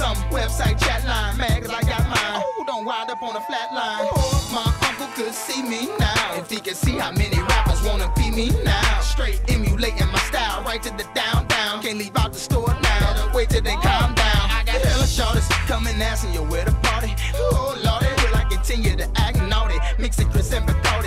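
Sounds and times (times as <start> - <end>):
deep bass line: 0.0 - 2.3, 4.2 - 5.0, 6.0 - 21.0
rapping over a beat: 0.0 - 21.0.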